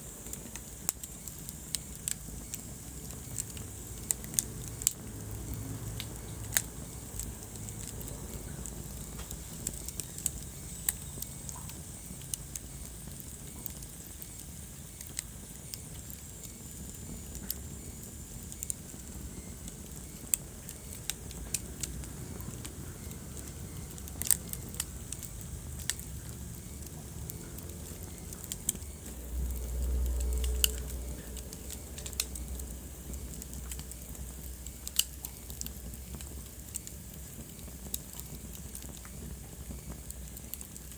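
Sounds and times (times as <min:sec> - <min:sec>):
low rumble of flame: 0:00.0 - 0:40.9
wood fire crackling and popping: 0:00.0 - 0:40.9.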